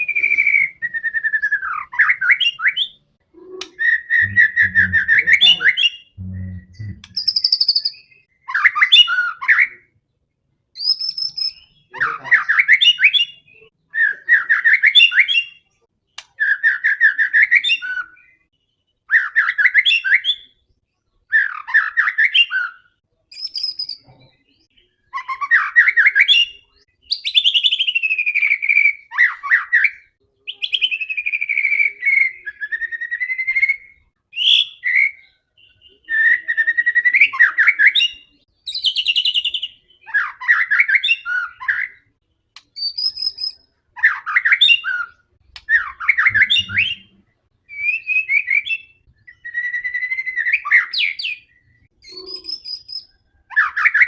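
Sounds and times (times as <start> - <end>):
songbird whistles and trills: 0.0 - 9.9, 10.8 - 54.0.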